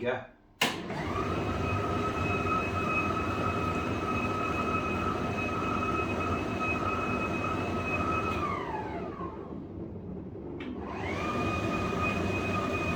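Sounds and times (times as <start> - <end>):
tumble dryer running with whine: 0.6 - 12.9.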